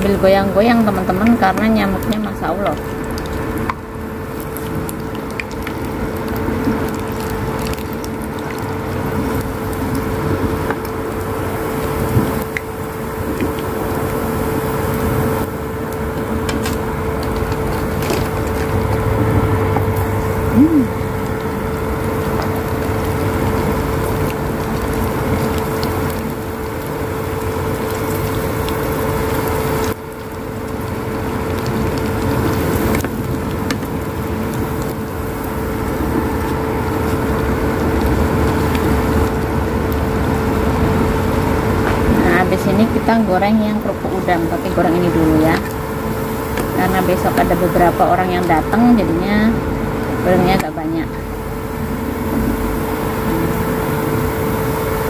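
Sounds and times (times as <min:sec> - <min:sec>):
cooktop hum: 0:00.0 - 0:55.0
oil bubbling and crackling: 0:00.0 - 0:55.0.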